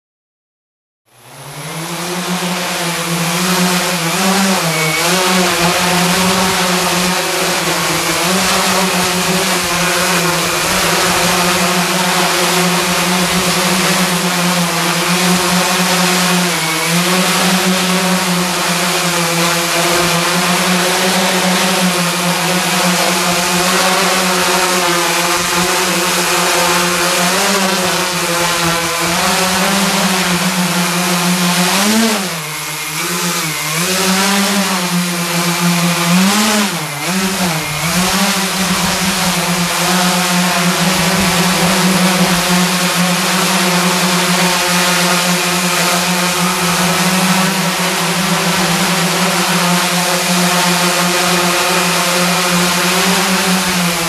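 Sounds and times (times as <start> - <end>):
drone motors buzzing hum: 1.1 - 54.0.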